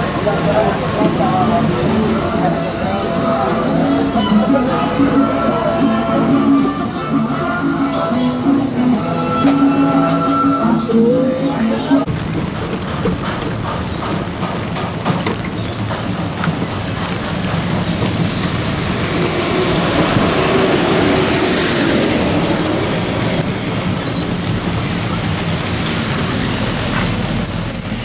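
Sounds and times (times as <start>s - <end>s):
tyres hissing on wet street: 0.0s - 28.0s.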